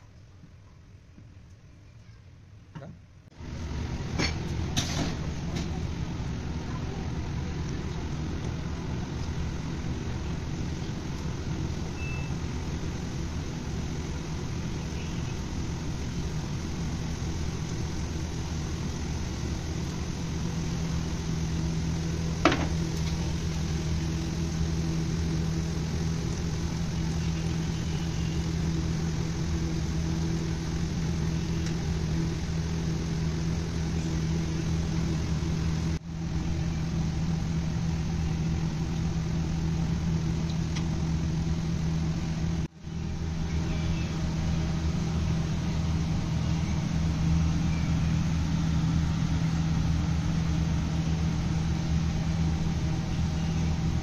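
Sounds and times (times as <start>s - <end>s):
low machine hum: 0.0s - 54.0s
hot oil sizzling: 3.4s - 54.0s.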